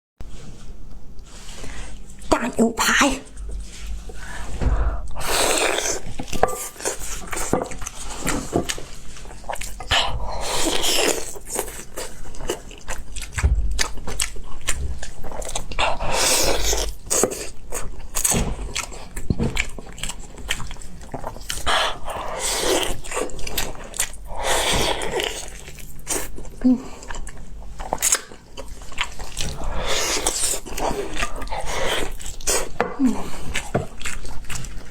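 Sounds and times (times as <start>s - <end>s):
close chewing and biting: 5.0s - 34.9s.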